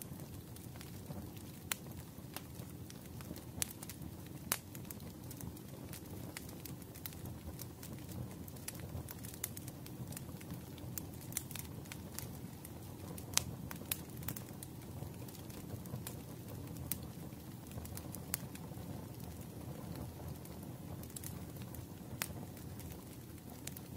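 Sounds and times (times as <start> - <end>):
wood fire crackling: 0.0 - 23.9
sharp pops of burning logs: 0.1 - 23.9.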